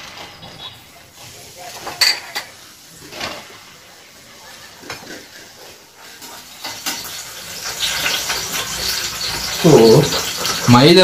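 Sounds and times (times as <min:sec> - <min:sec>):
dishes and utensils clinking: 0:00.0 - 0:03.7, 0:04.4 - 0:11.0.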